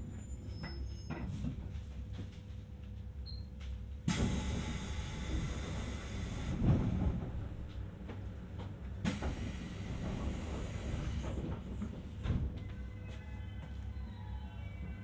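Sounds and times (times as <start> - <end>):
low train hum: 0.0 - 15.0.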